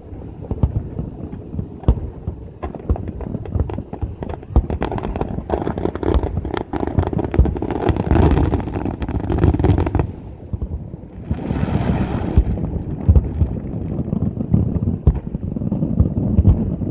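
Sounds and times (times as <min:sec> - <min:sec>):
fireworks booms and crackles: 0:00.0 - 0:16.9
hissing crackle: 0:00.0 - 0:16.9.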